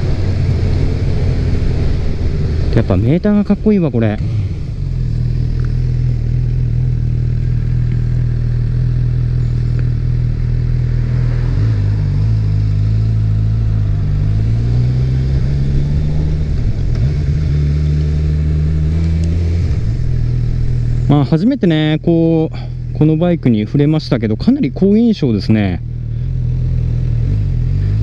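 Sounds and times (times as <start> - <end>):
motorcycle engine at low revs: 0.0 - 28.0.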